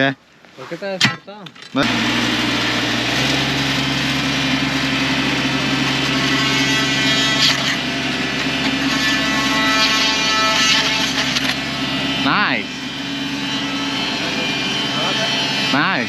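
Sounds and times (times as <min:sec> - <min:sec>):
diesel engine running steadily: 0:01.8 - 0:16.0.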